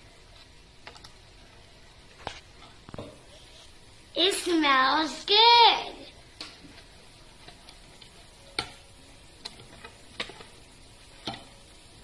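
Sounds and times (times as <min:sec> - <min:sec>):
whisk scraping hiss: 0:00.0 - 0:12.0.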